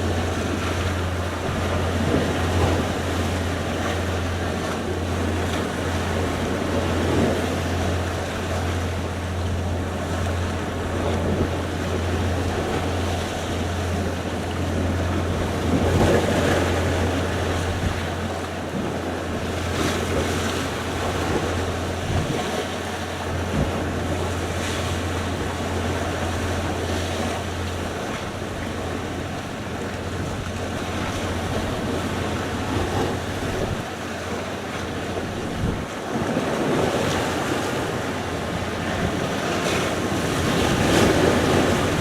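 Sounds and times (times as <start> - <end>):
sea waves and surf: 0.0 - 42.0
steady low hum: 0.0 - 42.0.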